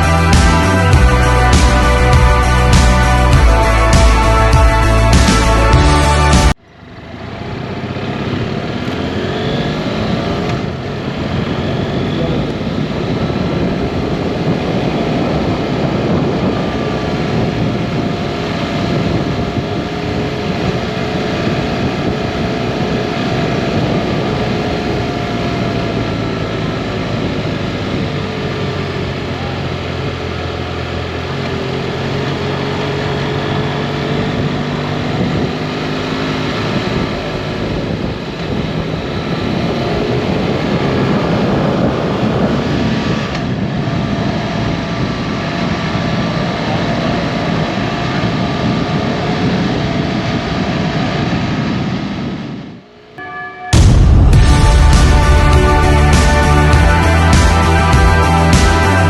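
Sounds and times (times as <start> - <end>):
heavy wind noise: 0.0 - 30.9, 31.5 - 59.0
motorcycle engine running: 0.0 - 51.9, 53.8 - 59.0.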